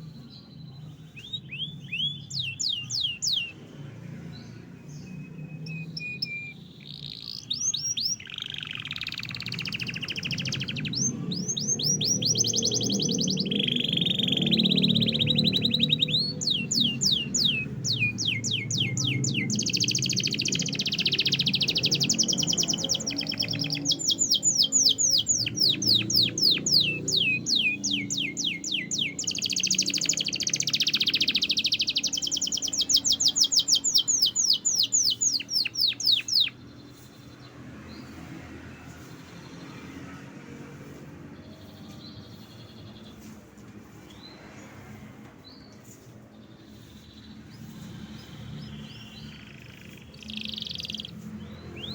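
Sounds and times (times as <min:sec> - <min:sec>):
faint bird chirps: 0:00.0 - 0:03.6, 0:04.3 - 0:38.2, 0:45.5 - 0:51.9
canary singing rapid trills: 0:00.0 - 0:51.9.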